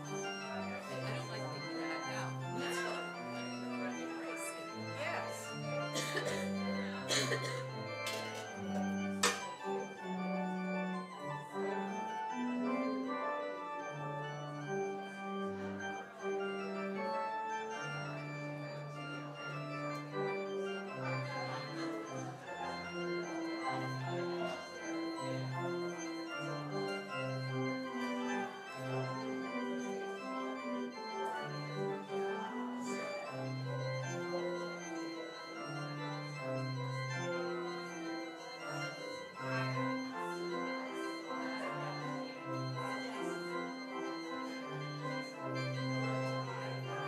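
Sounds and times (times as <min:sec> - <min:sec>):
church organ playing: 0:00.0 - 0:47.0.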